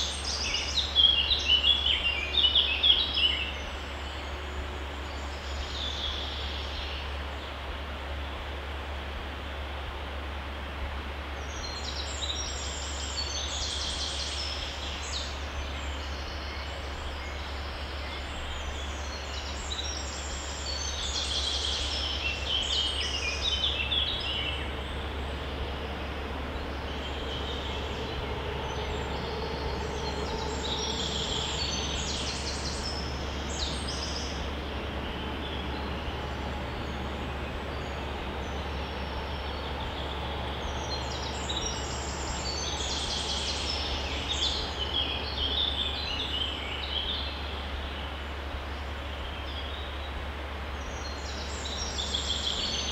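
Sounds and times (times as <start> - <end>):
songbirds singing: 0.0 - 8.6, 11.2 - 52.9
stream flowing: 0.0 - 52.9.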